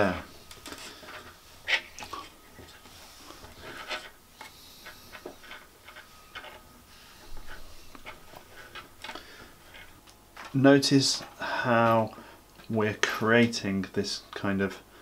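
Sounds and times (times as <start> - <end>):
cord rubbing and rustling: 0.0 - 12.8.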